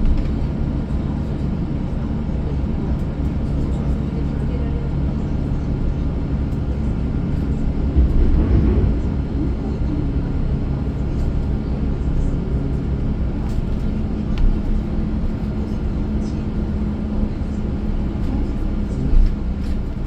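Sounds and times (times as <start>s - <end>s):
bus engine drone and road rumble: 0.0s - 20.0s.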